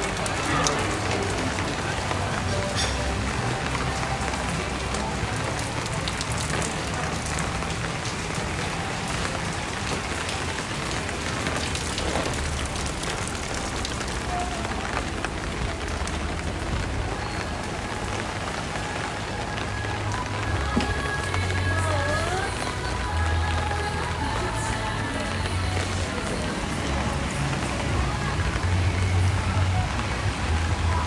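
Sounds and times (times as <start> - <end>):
rain falling on pavement: 0.0 - 31.0.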